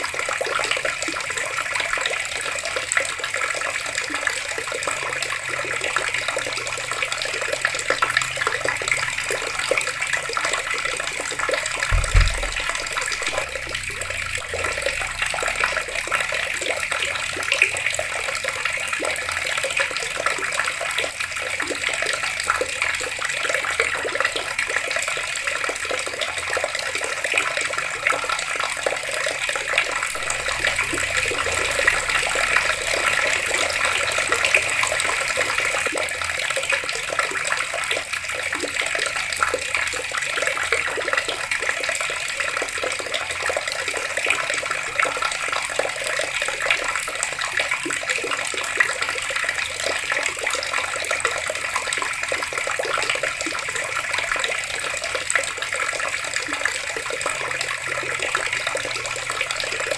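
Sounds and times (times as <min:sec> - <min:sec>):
water taps running and splashing: 0:00.0 - 0:59.9.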